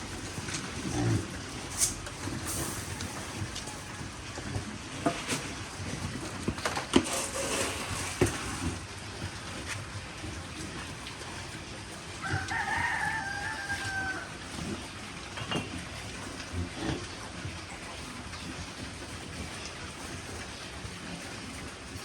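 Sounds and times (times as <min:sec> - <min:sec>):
piglets crunching food: 0:00.0 - 0:22.0.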